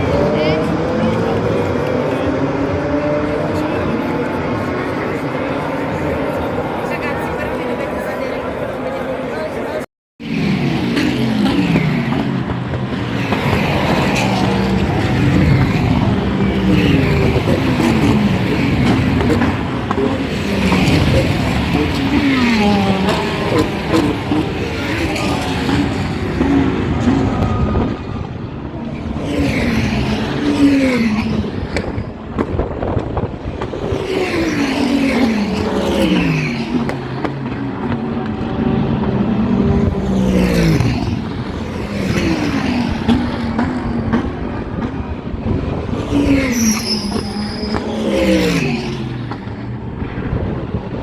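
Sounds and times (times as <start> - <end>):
race cars passing at speed: 0.0 - 51.0.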